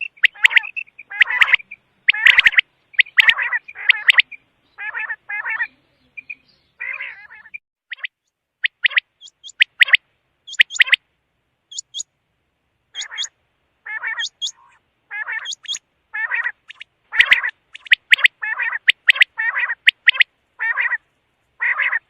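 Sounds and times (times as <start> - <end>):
quail calling: 0.0 - 11.0, 11.7 - 12.1, 12.9 - 22.0.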